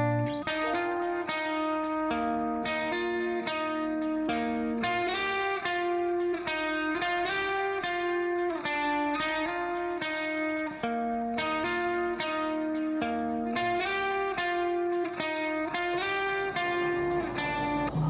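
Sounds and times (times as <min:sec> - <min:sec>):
plucked melody music: 0:00.0 - 0:18.0.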